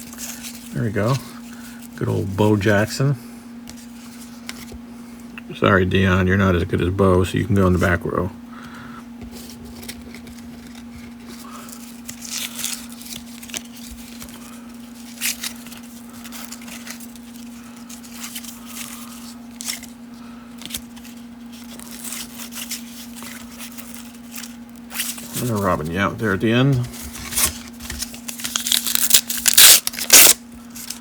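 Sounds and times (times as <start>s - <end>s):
cards rustling and sliding: 0.0s - 2.9s, 3.7s - 5.3s, 9.2s - 31.0s
steady low hum: 0.0s - 31.0s.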